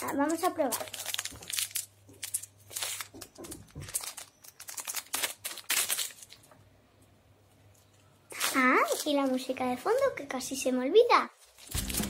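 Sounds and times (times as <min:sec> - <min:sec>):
plastic wrapper crinkling: 0:00.0 - 0:06.7, 0:07.7 - 0:10.5, 0:11.4 - 0:12.0.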